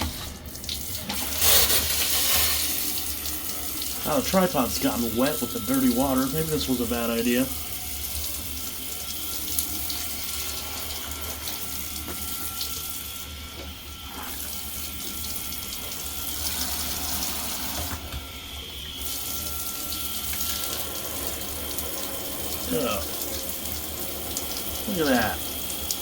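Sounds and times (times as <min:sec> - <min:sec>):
tap water running and splashing: 0:00.0 - 0:26.0.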